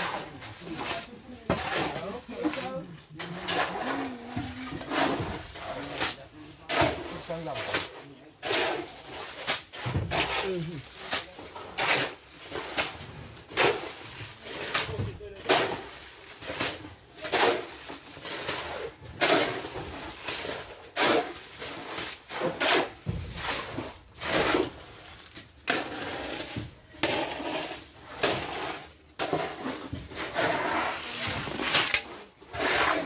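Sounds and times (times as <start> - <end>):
shovels scraping wet concrete: 0.0 - 33.0.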